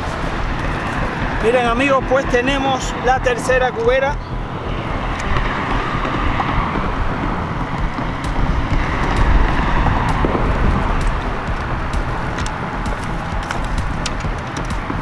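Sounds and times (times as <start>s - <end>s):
outdoor noise: 0.0s - 15.0s
wind buffeting the microphone: 0.0s - 15.0s.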